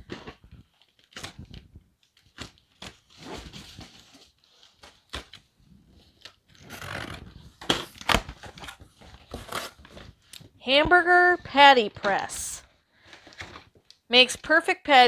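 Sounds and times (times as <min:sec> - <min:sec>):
cardboard and plastic rustling: 0:00.0 - 0:14.0.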